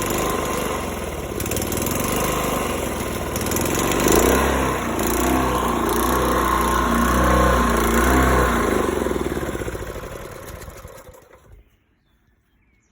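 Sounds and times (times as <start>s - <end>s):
small gas engine shutting off: 0.0s - 11.7s.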